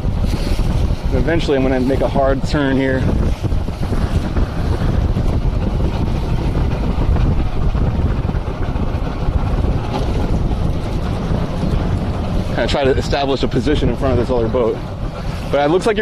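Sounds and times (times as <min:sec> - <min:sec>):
boat motor running: 0:00.0 - 0:16.0
water rushing along hull: 0:00.0 - 0:16.0
wind on microphone: 0:00.0 - 0:16.0.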